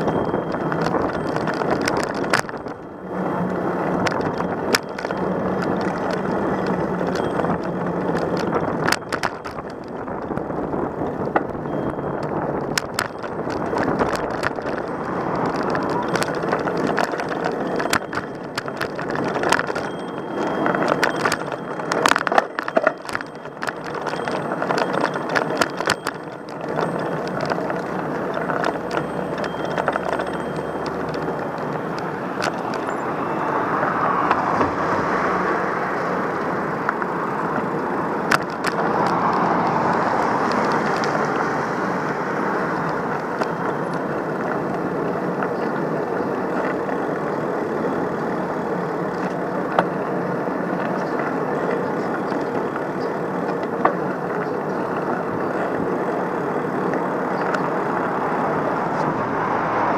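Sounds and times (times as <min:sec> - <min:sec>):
road traffic rushing: 0:00.0 - 0:59.9
sharp clicks and rattles: 0:00.0 - 0:59.9.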